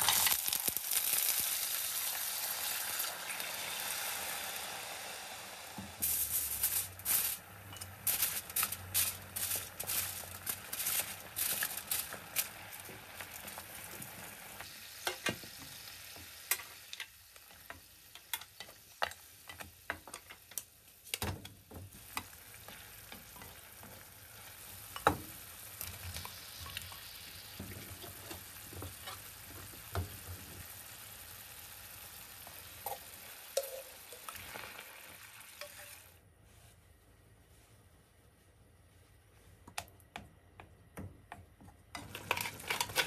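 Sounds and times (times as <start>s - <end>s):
oil sizzling in a frying pan: 0.0s - 36.2s.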